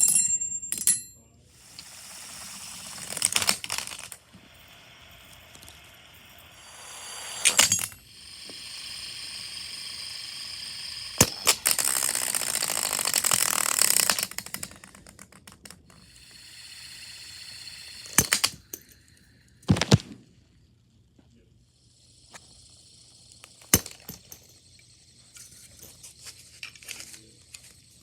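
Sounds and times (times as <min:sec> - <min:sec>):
toy whirring with rapid ticking: 0:01.6 - 0:19.7, 0:21.6 - 0:28.0.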